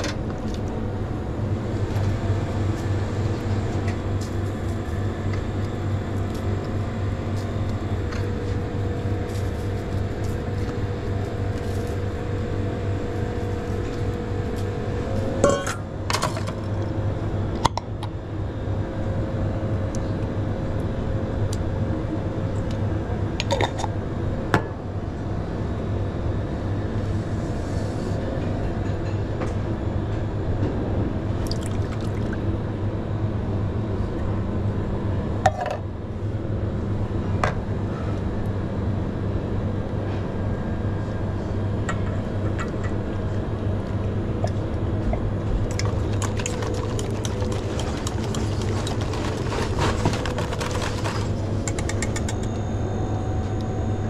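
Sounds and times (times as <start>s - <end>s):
kitchen ventilation hum: 0.0s - 54.0s.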